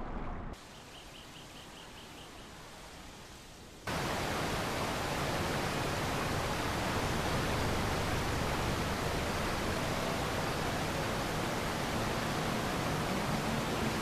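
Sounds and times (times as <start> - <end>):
steady static hiss: 0.6 - 14.0.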